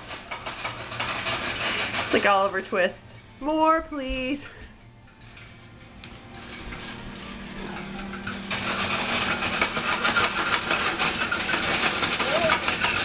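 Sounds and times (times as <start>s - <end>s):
popcorn popping in saucepan: 0.0s - 13.0s.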